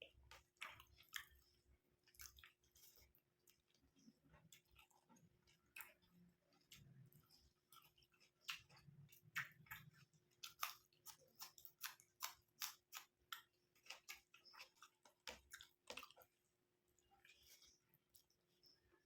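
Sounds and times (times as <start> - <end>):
wet chewing and lip-smacking: 0.0 - 19.0.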